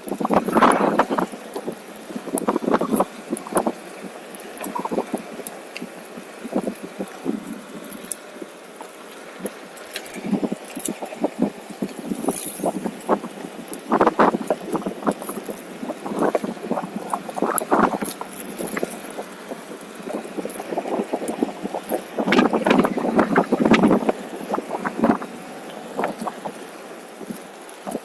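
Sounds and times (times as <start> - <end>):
wind on microphone: 0.0 - 8.6, 9.3 - 28.0.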